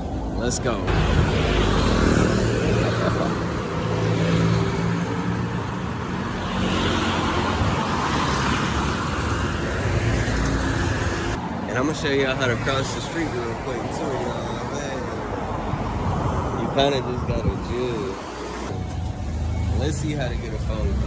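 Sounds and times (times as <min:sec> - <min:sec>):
road noise: 0:00.0 - 0:21.0
vehicles passing close by: 0:00.0 - 0:21.0.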